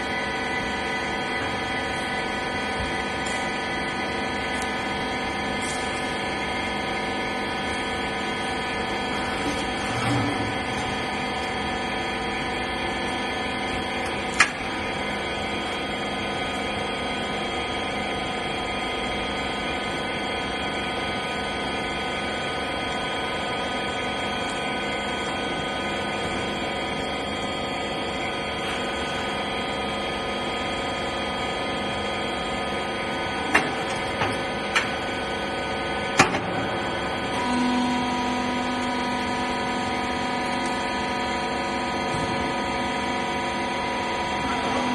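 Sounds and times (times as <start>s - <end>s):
baler machine humming: 0.0s - 44.9s.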